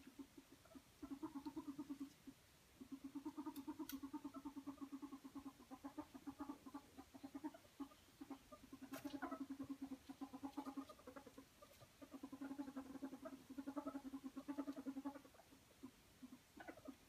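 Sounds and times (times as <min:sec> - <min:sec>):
ferret dooking: 0:00.0 - 0:17.0.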